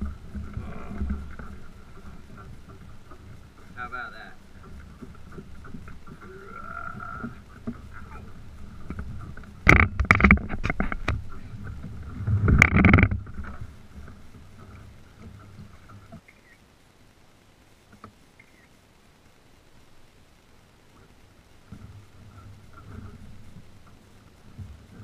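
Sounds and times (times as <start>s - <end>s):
knocks and clatter on plastic kayak: 0.0s - 16.4s, 20.9s - 25.0s
faint low rumble: 0.0s - 25.0s.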